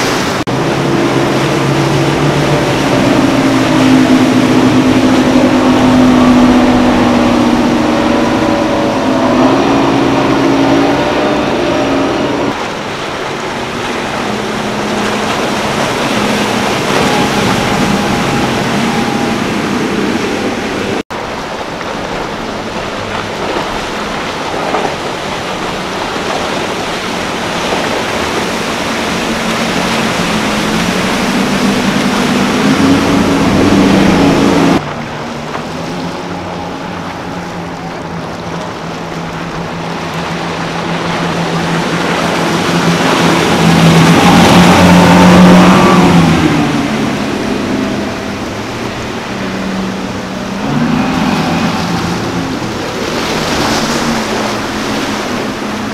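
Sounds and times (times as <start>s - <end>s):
outboard motor drone: 0.0s - 55.9s
rush of hull spray and wake: 0.0s - 55.9s.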